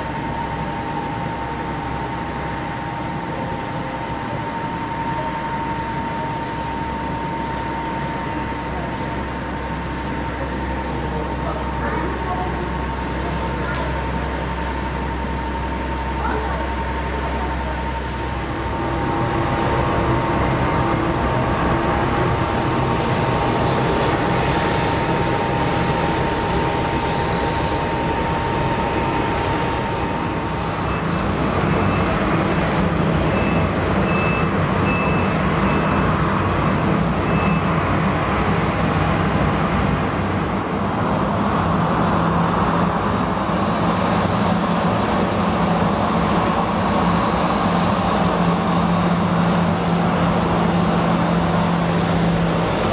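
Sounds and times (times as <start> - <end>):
deep engine hum: 0.0 - 52.9
jet engines idling whine: 0.0 - 52.9.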